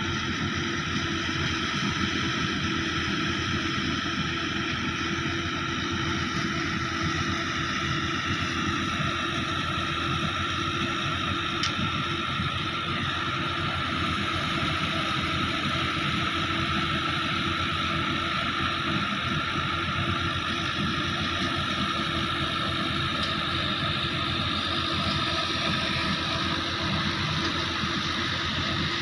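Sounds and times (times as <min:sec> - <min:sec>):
steady high whine: 0:00.0 - 0:29.0
tractor and thresher drone: 0:00.0 - 0:29.0.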